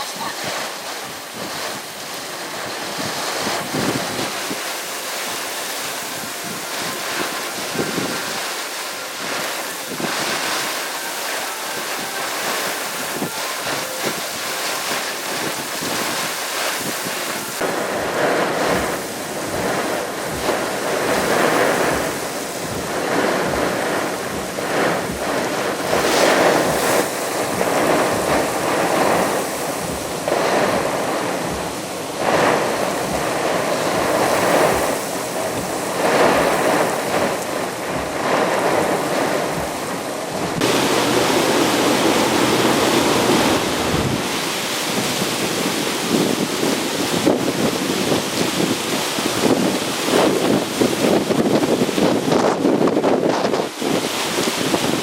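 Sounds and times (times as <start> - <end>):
strong wind gusts: 0.0 - 55.0
wind buffeting microphone: 0.0 - 55.0.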